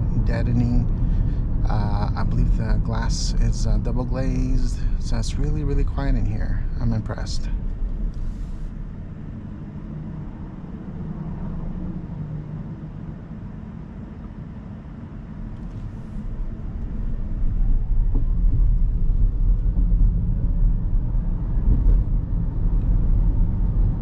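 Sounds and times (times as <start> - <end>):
road and tyre rumble in car cabin: 0.0 - 24.0.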